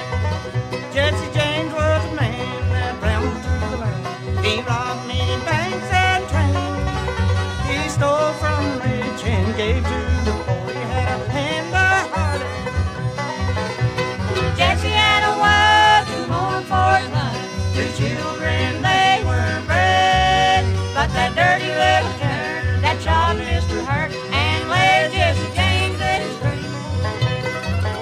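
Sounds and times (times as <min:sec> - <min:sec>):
banjo: 0:00.0 - 0:28.0
fiddle sliding: 0:00.0 - 0:28.0
guitar: 0:00.0 - 0:28.0
walking bass: 0:00.0 - 0:28.0.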